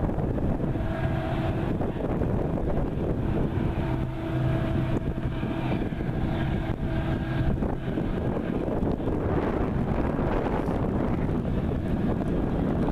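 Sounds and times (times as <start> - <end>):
wind buffeting microphone: 0.0 - 12.9
distant locomotive horn: 0.4 - 11.4.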